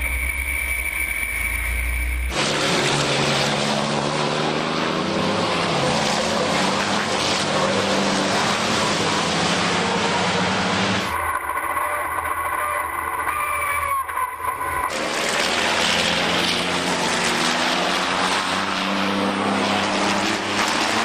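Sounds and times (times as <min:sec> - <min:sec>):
racing truck engines: 0:00.0 - 0:21.0.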